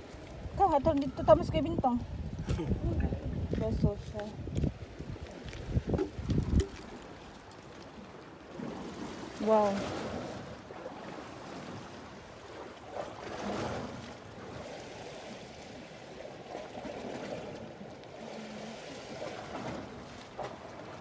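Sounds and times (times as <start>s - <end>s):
seawater lapping: 0.0s - 21.0s.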